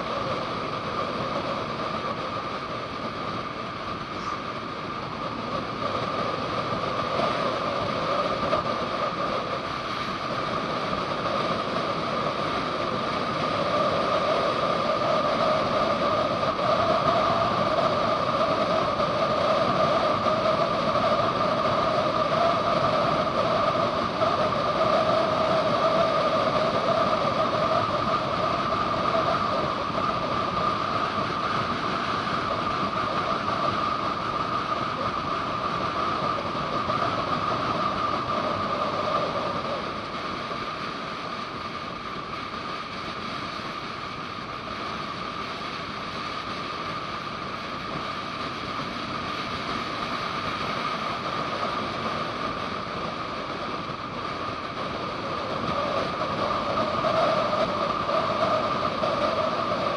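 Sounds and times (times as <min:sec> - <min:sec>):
motorcycle engine drone: 0:00.0 - 0:59.9
wind rush: 0:00.0 - 0:59.9.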